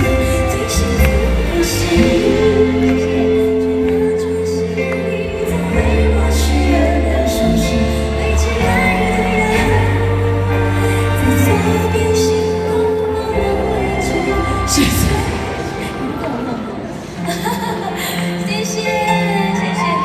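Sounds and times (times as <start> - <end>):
live band playing pop ballad: 0.0 - 20.0
person singing: 0.0 - 20.0.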